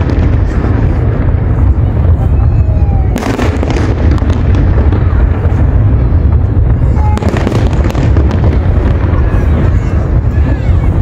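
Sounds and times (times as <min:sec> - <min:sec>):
firework shells bursting with booms: 0:00.0 - 0:11.0
sharp firework cracks: 0:00.0 - 0:11.0.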